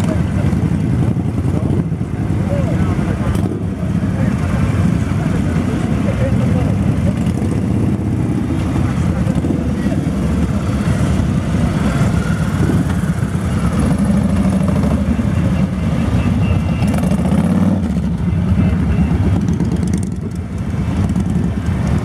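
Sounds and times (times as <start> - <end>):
motorcycles rumbling past: 0.0 - 22.0.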